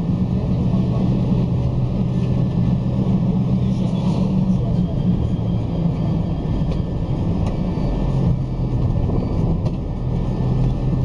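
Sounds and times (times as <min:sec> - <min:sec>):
bus engine humming: 0:00.0 - 0:11.0
road noise: 0:00.0 - 0:11.0.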